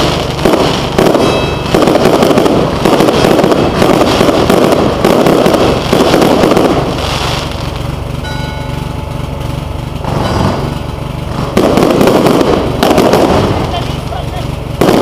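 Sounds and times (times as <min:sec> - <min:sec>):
fireworks bursting and crackling: 0:00.0 - 0:15.0
steady low hum: 0:00.0 - 0:15.0.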